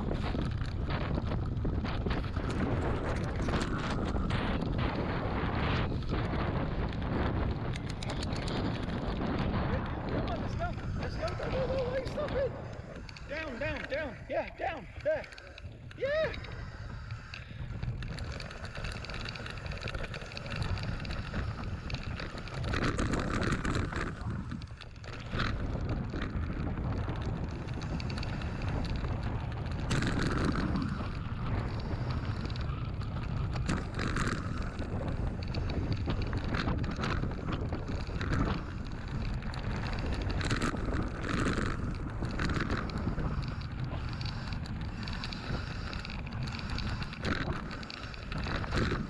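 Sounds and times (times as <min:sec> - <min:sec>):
bike rattling over bumps: 0:00.0 - 0:49.0
wind buffeting microphone: 0:00.0 - 0:49.0.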